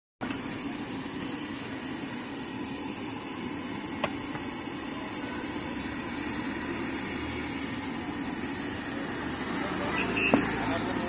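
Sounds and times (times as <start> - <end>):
stove burner hissing roar: 0.2 - 11.0.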